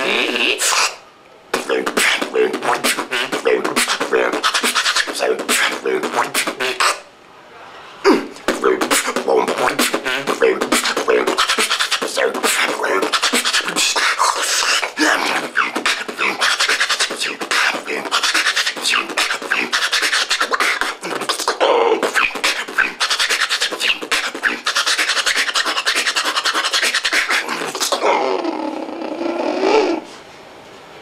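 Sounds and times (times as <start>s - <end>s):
beatboxing mouth percussion: 0.0s - 7.1s, 8.1s - 30.1s
wavering vocal line: 0.0s - 7.1s, 8.0s - 30.2s.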